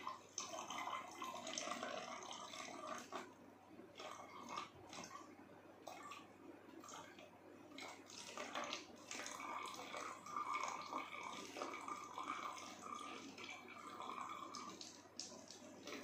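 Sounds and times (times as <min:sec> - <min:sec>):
liquid pouring into plastic bottle: 0:00.0 - 0:16.0.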